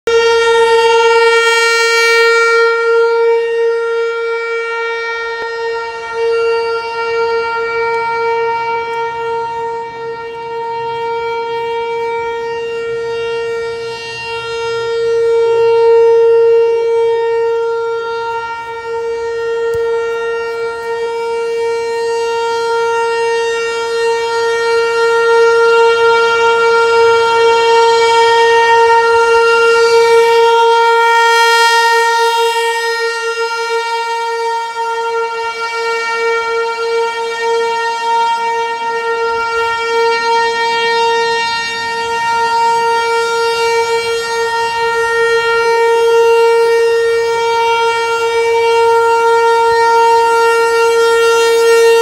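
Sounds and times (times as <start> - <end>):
warning siren steady tone: 0.0 - 52.0.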